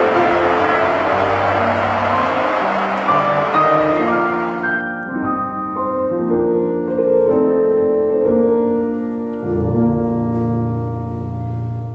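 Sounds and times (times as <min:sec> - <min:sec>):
piano-like keyboard notes: 0:00.0 - 0:11.9.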